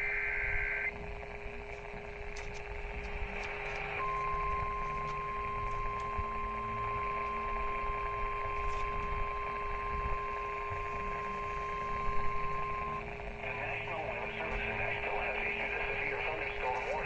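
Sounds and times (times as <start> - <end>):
crackly radio static: 0.0 - 17.0
steady low hum: 0.0 - 17.0.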